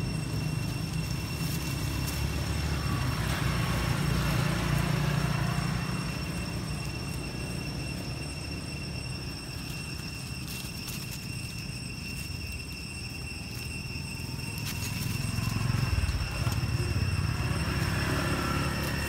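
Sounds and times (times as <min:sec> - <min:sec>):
steady low rumble: 0:00.0 - 0:18.0
faint high-pitched tones: 0:00.0 - 0:19.0.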